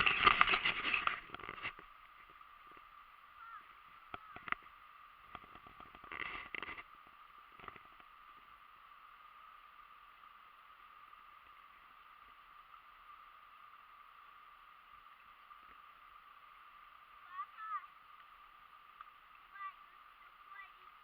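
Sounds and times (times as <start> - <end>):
creek water running: 0.0 - 21.0.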